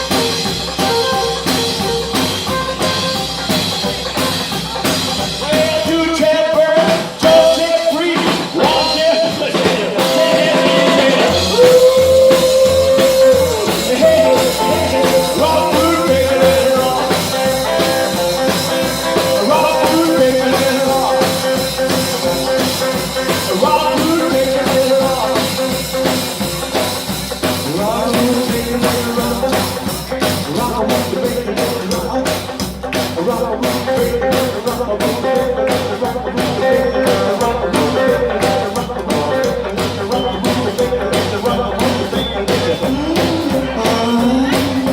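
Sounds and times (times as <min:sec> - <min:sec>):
rockabilly band playing live: 0:00.0 - 0:44.9
steady drum beat: 0:00.0 - 0:44.9.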